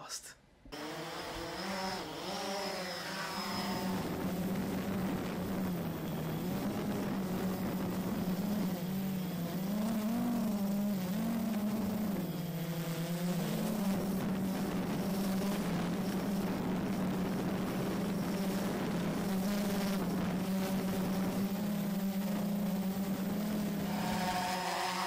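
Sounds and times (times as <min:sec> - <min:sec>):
drone propellers buzzing: 0:00.7 - 0:25.0.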